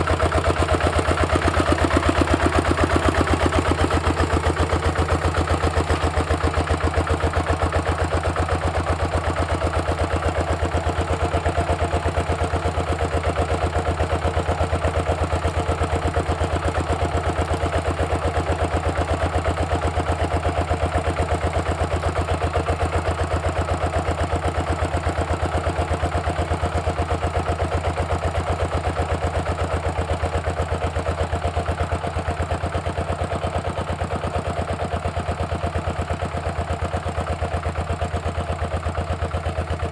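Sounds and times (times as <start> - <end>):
diesel engine chugging steadily: 0.0 - 39.9.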